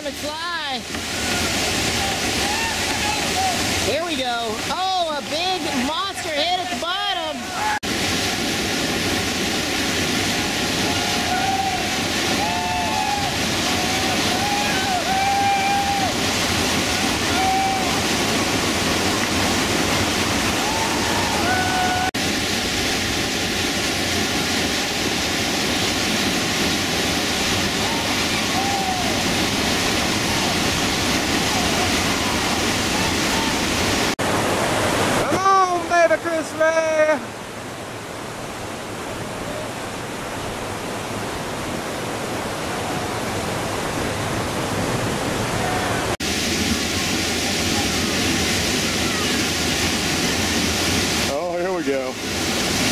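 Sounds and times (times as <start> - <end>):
whitewater rushing: 0.0 - 52.9.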